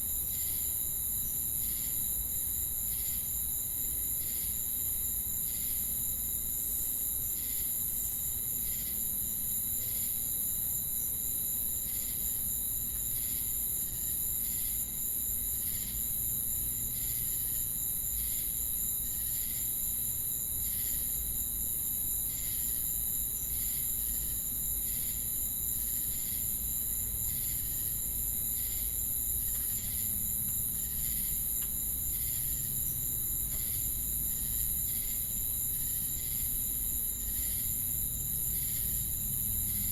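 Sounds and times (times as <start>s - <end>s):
crickets and cicadas chirping: 0.0s - 39.9s.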